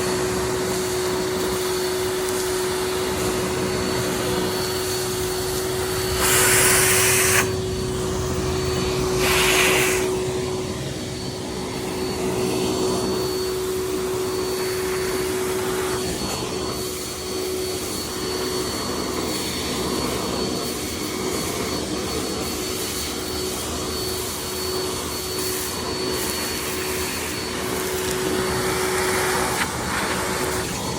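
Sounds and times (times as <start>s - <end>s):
vacuum cleaner whining: 0.0s - 30.9s.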